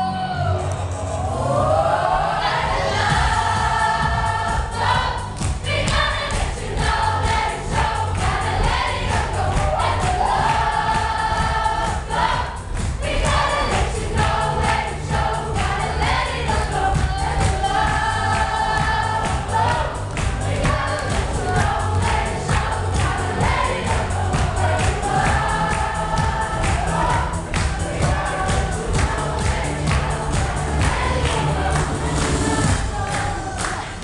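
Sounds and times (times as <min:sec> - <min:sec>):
gospel choir singing: 0:00.0 - 0:34.0
steady beat: 0:02.7 - 0:33.8.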